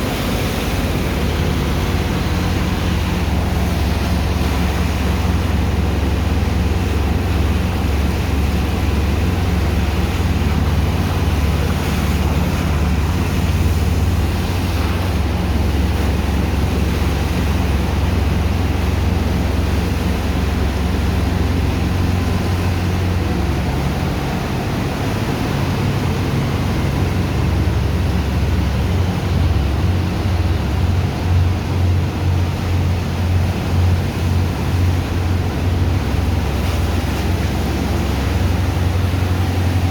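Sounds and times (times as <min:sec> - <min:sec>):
heavy pump engine rumbling: 0:00.0 - 0:39.9
rushing water and sand slurry: 0:00.0 - 0:39.9.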